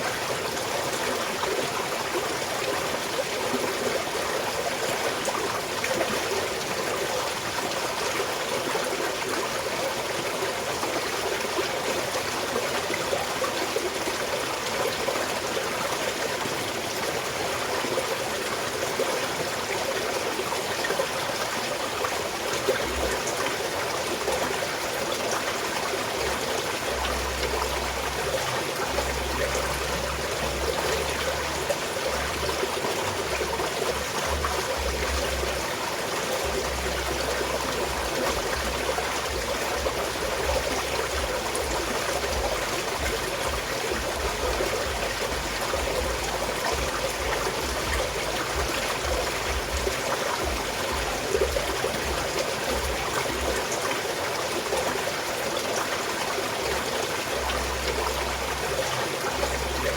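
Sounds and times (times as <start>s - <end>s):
stream flowing and trickling: 0.0s - 59.9s.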